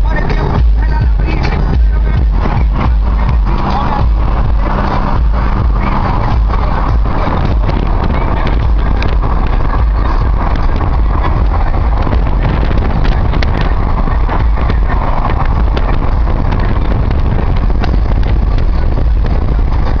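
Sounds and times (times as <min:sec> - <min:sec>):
vehicle engine noise: 0:00.0 - 0:20.0
wind rumbling on microphone: 0:00.0 - 0:20.0.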